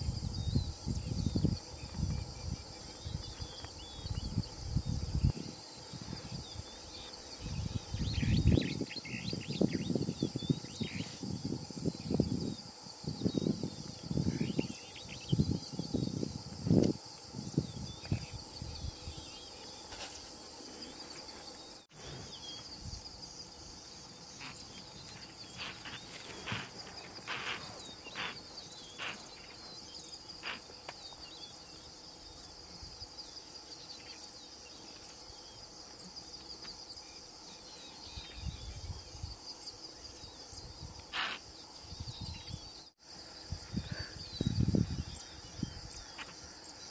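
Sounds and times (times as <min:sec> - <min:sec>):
short insect chirps: 0:00.0 - 0:46.9
shrill insect chorus: 0:00.0 - 0:46.9.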